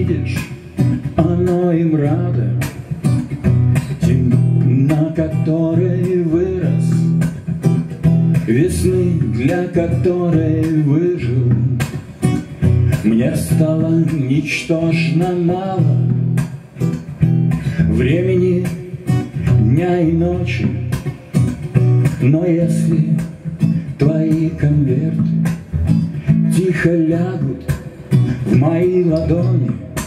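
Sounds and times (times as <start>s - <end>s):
man singing: 0.0s - 3.0s, 3.8s - 7.4s, 8.3s - 16.4s, 17.5s - 30.0s
acoustic guitar strumming: 0.0s - 30.0s.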